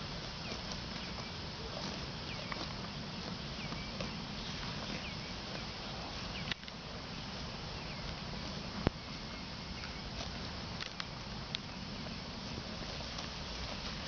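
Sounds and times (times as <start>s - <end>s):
cattle tearing grass: 0.0s - 9.0s, 9.8s - 14.0s
hooves shifting on dry ground: 0.0s - 14.0s.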